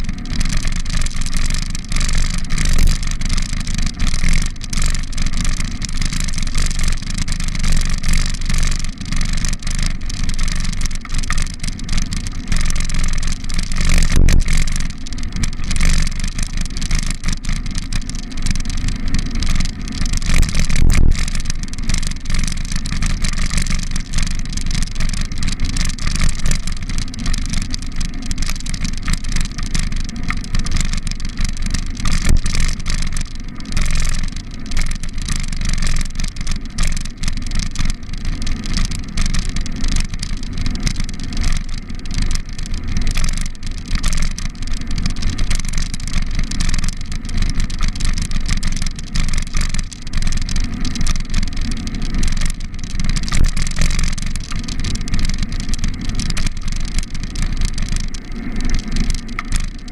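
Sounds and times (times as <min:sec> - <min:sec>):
bicycle jolts: 0:00.0 - 0:59.9
bicycle rumble and wind: 0:00.0 - 0:59.9.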